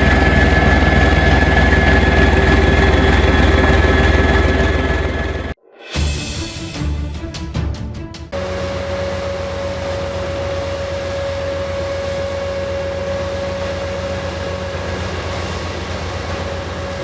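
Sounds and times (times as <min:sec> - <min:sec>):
large diesel engine running: 0:00.0 - 0:05.6, 0:08.4 - 0:17.0.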